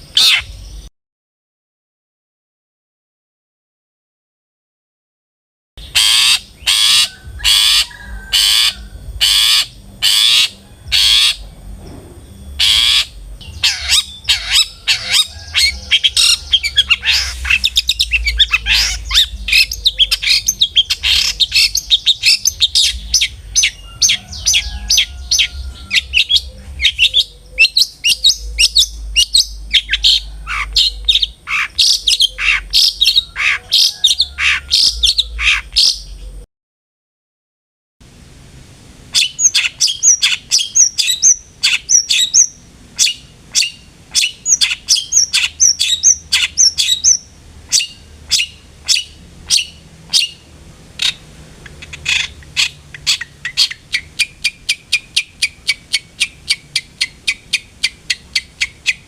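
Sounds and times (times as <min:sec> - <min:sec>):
bird chattering song: 0:00.0 - 0:00.9, 0:05.8 - 0:11.5, 0:12.2 - 0:36.4, 0:39.1 - 0:59.0
bird harsh calls: 0:00.0 - 0:00.9, 0:05.8 - 0:11.6, 0:12.4 - 0:36.4, 0:39.1 - 0:59.0.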